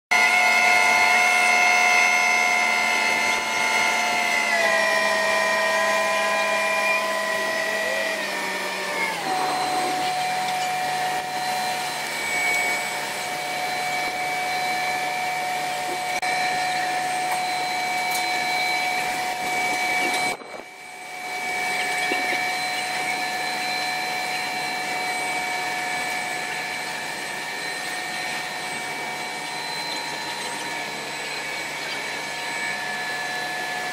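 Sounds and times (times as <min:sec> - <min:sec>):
crane engine whine: 0:00.1 - 0:33.9.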